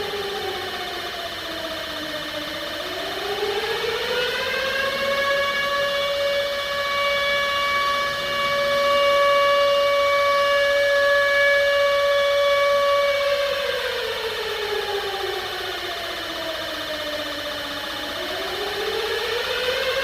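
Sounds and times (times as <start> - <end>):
civil defense siren: 0.0 - 20.0.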